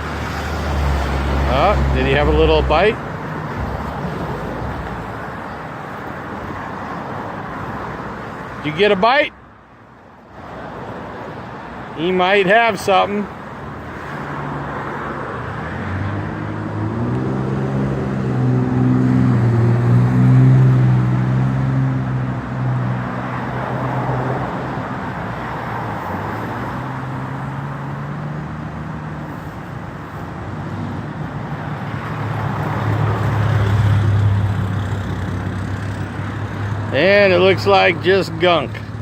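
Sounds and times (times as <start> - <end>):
vehicle engine hum passing: 0.0 - 9.2, 13.0 - 39.0.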